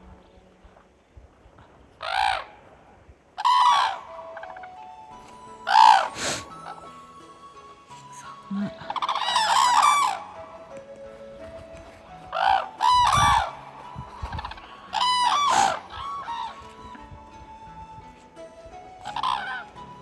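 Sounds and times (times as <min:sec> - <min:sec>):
soft background music: 0:00.0 - 0:20.0
cranes calling: 0:01.4 - 0:20.0.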